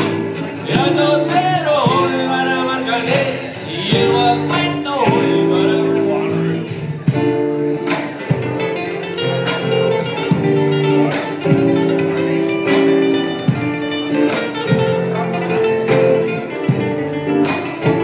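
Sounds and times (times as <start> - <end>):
cajon drum: 0.0 - 18.0
nylon-string guitars playing: 0.0 - 18.0.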